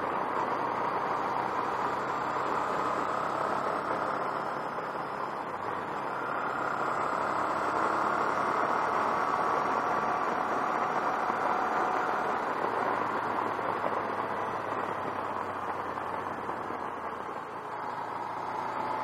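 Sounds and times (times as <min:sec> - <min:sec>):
motorcycle engine and road noise: 0:00.0 - 0:19.0.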